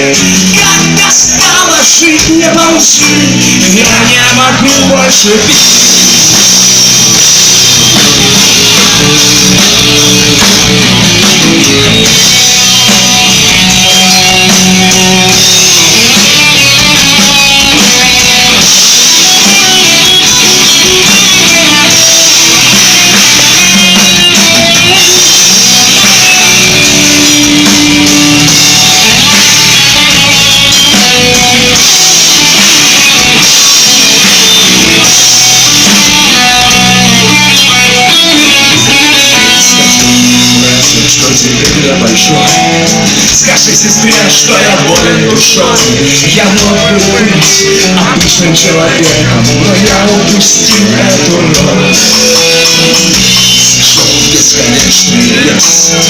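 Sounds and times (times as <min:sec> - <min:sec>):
drum kit: 0:00.0 - 0:56.0
guitars: 0:00.0 - 0:56.0
rock band playing live: 0:00.0 - 0:56.0.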